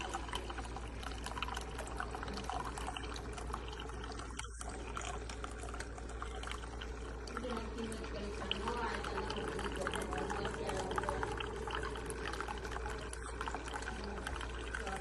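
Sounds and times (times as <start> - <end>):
liquid pouring and trickling: 0.0 - 15.0.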